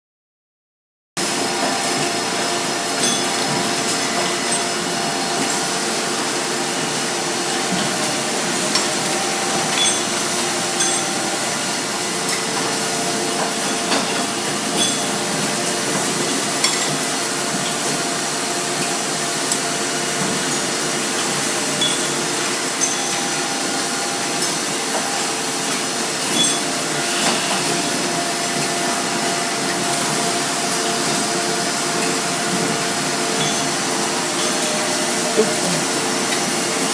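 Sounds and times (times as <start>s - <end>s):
machine hum with constant tones: 1.2s - 36.9s.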